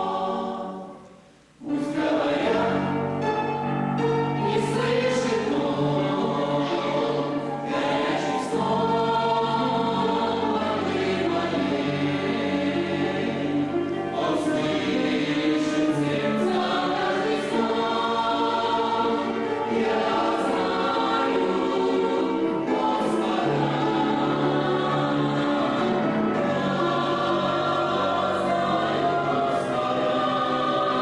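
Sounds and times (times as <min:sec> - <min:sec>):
choir singing a hymn: 0:00.0 - 0:31.0.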